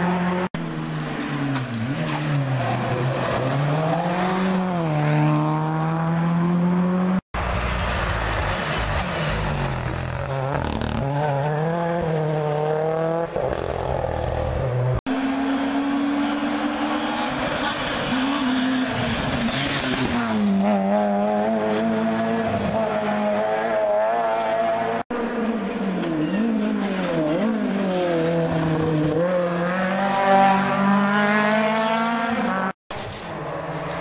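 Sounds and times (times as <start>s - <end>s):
rally car engine revving: 0.0s - 32.8s.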